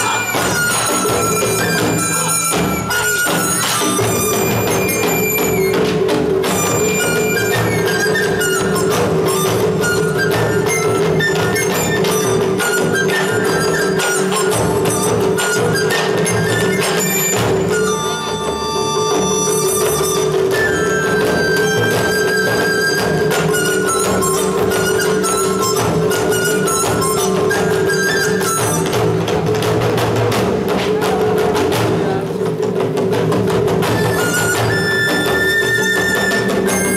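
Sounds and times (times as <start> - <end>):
barrel drums beating: 0.0 - 36.9.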